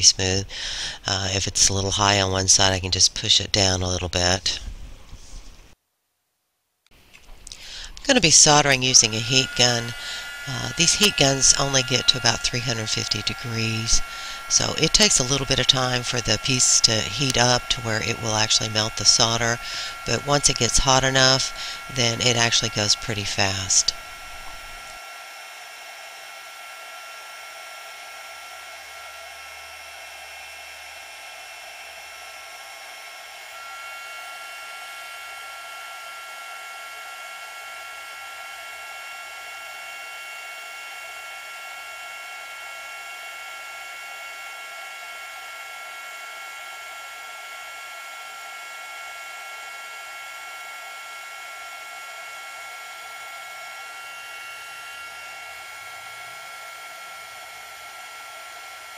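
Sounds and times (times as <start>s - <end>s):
heat gun whining: 0.0s - 4.6s, 6.9s - 58.9s.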